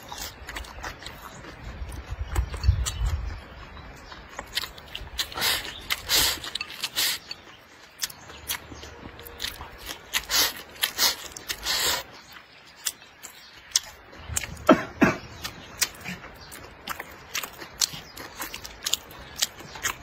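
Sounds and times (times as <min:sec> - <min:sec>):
person chewing rice: 0:00.0 - 0:20.0.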